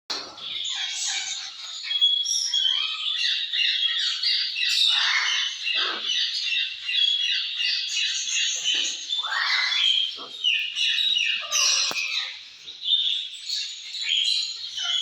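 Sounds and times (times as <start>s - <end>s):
parrots squawking and chattering: 0.1s - 15.0s.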